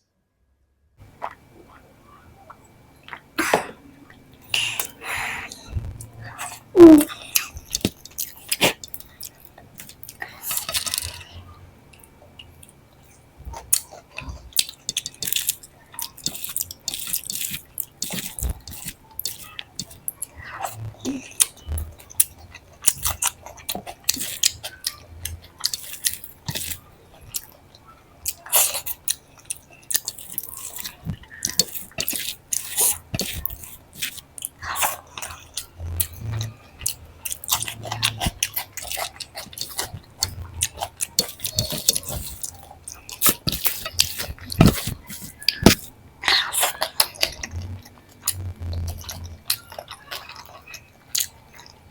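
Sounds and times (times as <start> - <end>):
chewing and mouth smacks: 1.1 - 1.8, 4.1 - 51.9.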